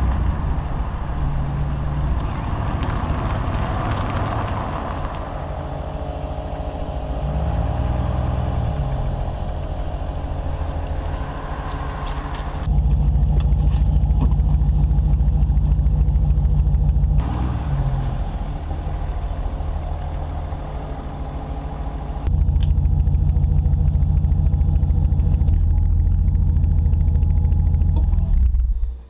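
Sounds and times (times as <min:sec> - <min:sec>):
deep exhaust rumble: 0:00.0 - 0:29.0.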